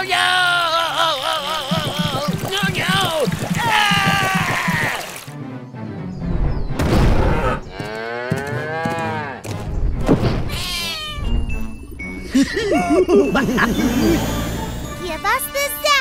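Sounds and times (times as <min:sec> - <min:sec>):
background music: 0:01.6 - 0:16.0.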